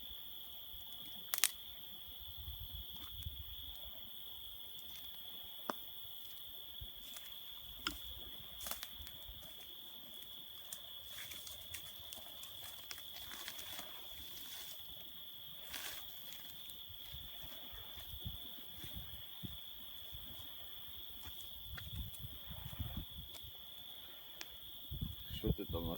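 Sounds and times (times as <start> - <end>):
crickets chirring: 0.0 - 25.9.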